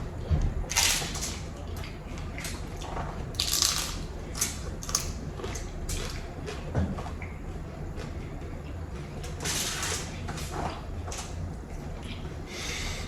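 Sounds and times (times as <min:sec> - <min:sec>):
crunchy tacos being chewed: 0:00.6 - 0:12.4.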